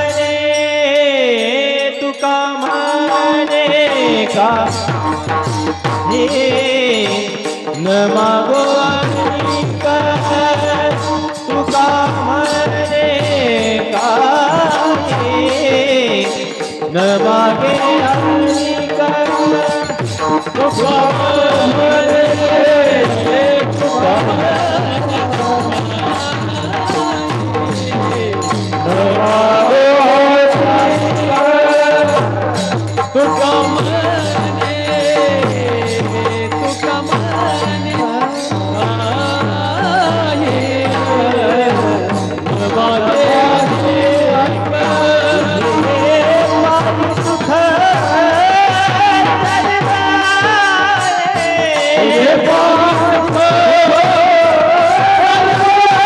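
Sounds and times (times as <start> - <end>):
drum and cymbal accompaniment: 0.0 - 56.0
person singing devotional song: 0.0 - 56.0.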